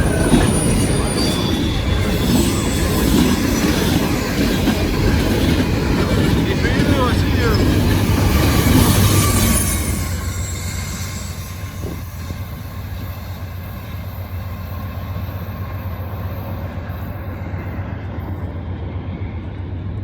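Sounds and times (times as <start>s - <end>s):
rail and wheel noise: 0.0s - 20.0s.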